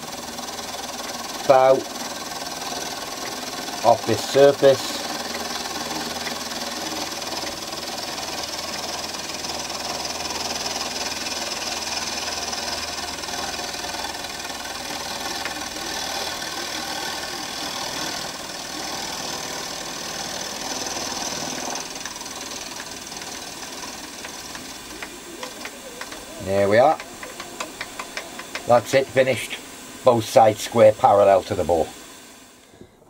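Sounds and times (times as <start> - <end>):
milling machine cutting hiss: 0.0 - 32.9.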